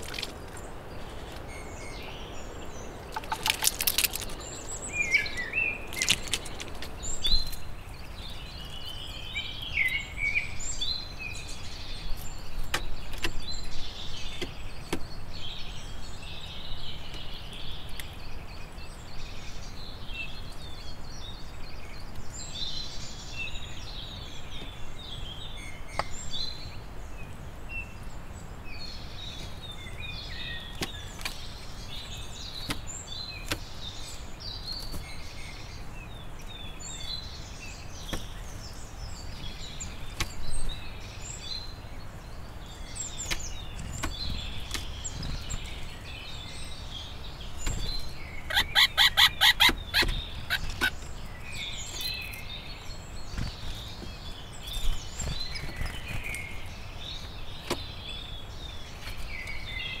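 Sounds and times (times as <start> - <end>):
songbirds singing: 0.0 - 60.0.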